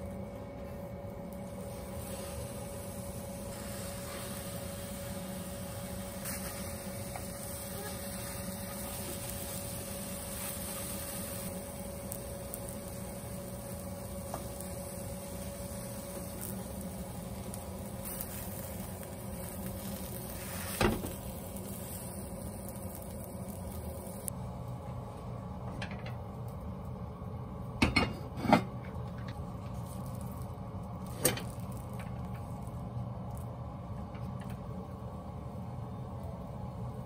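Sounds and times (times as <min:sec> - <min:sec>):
kitchen background noise: 0:00.0 - 0:27.0, 0:27.6 - 0:34.8.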